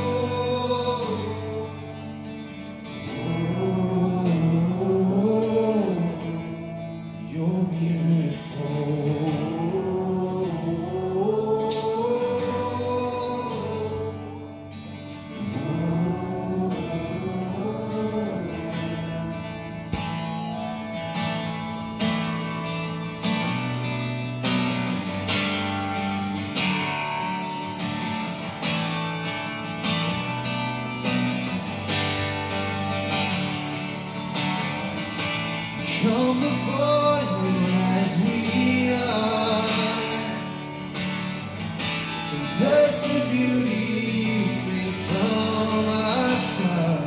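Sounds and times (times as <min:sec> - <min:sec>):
guitar chords: 0:00.0 - 0:47.0
voices singing slow melody: 0:00.0 - 0:47.0.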